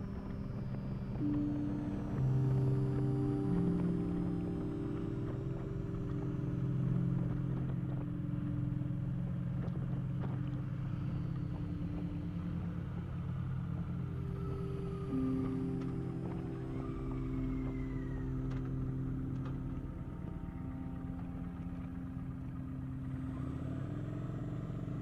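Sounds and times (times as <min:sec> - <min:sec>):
faint rising tone: 0:00.0 - 0:25.0
motorcycle engine cruising: 0:00.0 - 0:25.0
wind and road rumble: 0:00.0 - 0:25.0.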